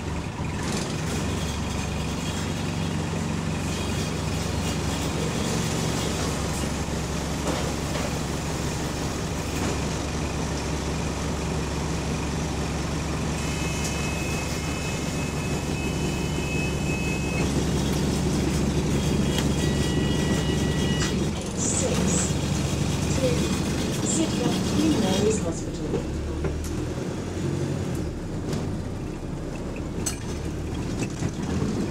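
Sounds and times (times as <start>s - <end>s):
bus engine: 0.0s - 31.9s.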